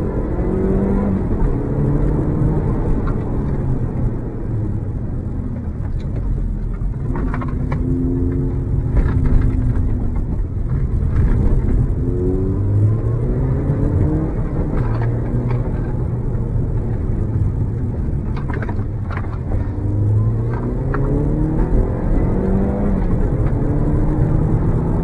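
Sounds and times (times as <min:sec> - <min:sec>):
car engine accelerating: 0:00.0 - 0:25.0
engine crackles: 0:00.0 - 0:25.0.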